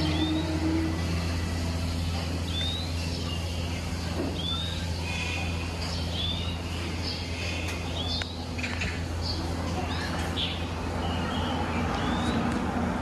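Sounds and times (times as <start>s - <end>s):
bird rising chirp: 0.0s - 12.4s
steady low hum: 0.0s - 13.0s.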